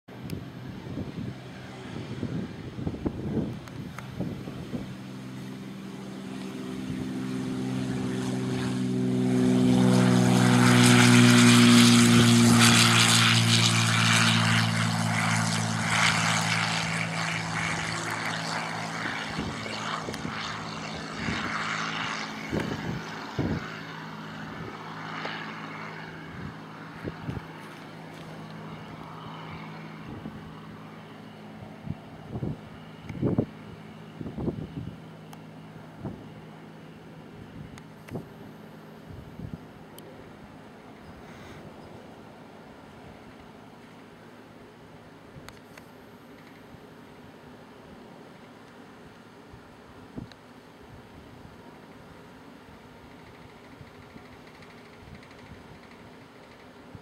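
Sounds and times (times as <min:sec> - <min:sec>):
propeller plane engine drone: 0:00.1 - 0:57.0.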